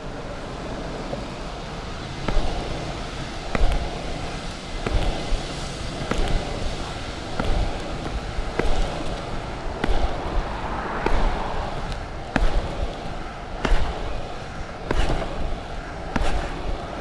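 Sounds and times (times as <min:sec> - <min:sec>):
longboard wheels rolling on tarmac: 0:00.0 - 0:17.0
foot slapping ground: 0:02.2 - 0:17.0.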